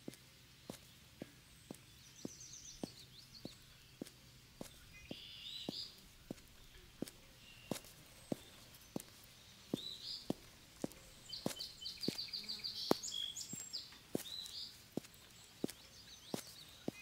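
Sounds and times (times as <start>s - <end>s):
birds singing: 0.0s - 17.0s
footsteps on asphalt: 0.0s - 17.0s.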